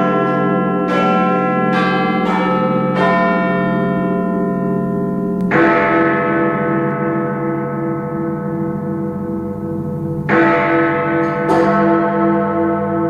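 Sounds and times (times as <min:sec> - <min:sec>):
great bell striking: 0:00.0 - 0:13.0
pulsing bell hum: 0:00.9 - 0:13.0.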